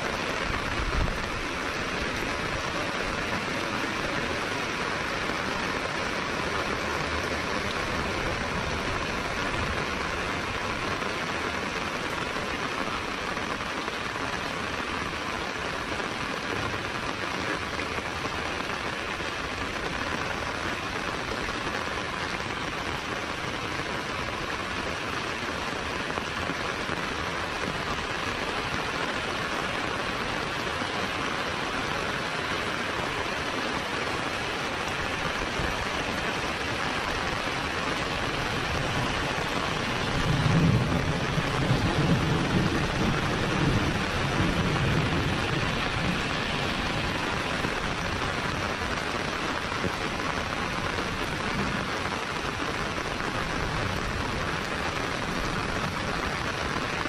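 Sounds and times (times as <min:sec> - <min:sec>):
heavy rain on pavement: 0:00.0 - 0:57.0.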